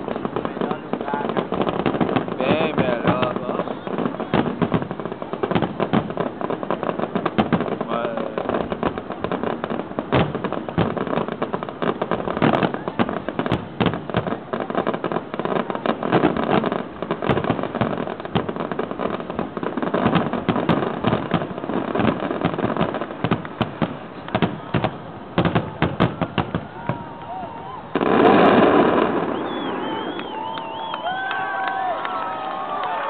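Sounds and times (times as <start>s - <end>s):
fireworks bangs and crackling: 0.0s - 33.0s.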